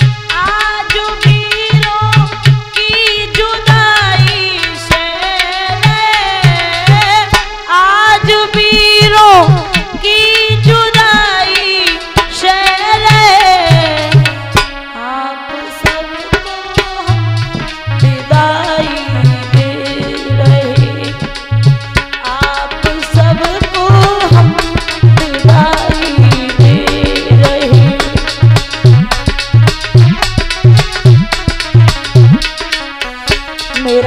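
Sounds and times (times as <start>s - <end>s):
tabla playing: 0.0s - 34.0s
woman singing: 0.3s - 21.4s, 22.2s - 28.5s, 33.8s - 34.0s.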